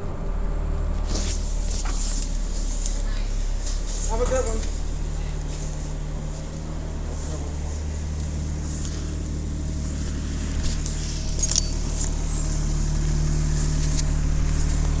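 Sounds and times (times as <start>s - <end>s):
bus diesel engine droning: 0.0s - 15.0s
sharp clicks and rattles: 1.0s - 15.0s.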